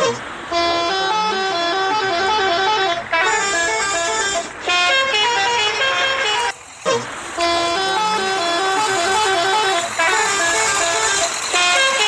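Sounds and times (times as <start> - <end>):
bus musical horn melody: 0.0 - 12.0.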